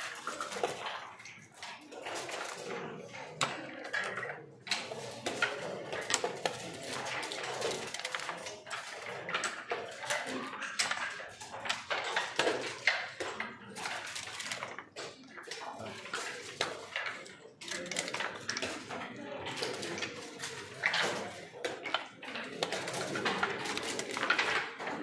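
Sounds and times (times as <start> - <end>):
checkers and dice clattering: 0.0 - 25.0.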